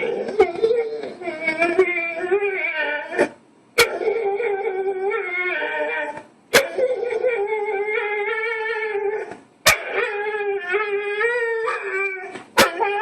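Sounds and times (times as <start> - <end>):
dog howling: 0.0 - 13.0.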